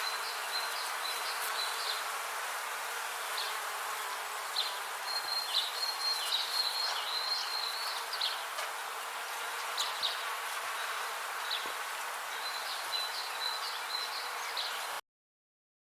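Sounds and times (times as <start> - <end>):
small birds chirping: 0.0 - 2.1, 3.1 - 15.0
bees buzzing: 0.0 - 15.0.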